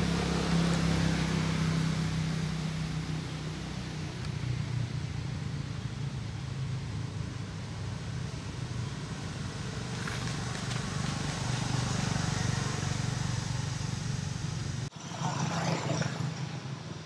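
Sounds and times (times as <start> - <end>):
engine running low rumble: 0.0 - 14.9.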